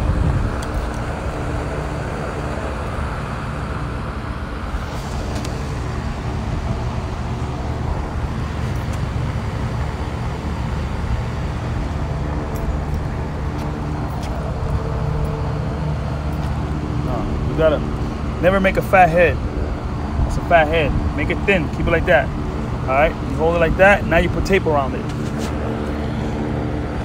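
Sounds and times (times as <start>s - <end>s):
air conditioning and fan drone: 0.0s - 27.0s.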